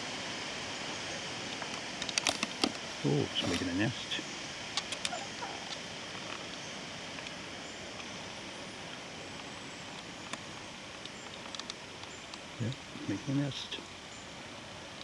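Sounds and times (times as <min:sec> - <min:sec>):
wind through forest trees: 0:00.0 - 0:15.0.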